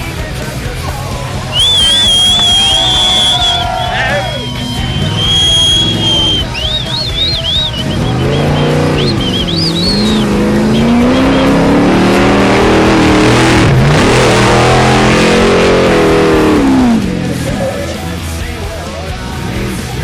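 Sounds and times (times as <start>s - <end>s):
song vocals: 0.0s - 20.0s
truck engine revving hard: 0.0s - 20.0s.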